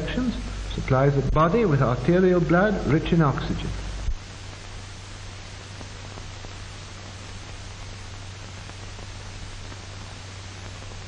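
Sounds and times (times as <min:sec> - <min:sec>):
film soundtrack hiss and hum: 0:00.0 - 0:11.0.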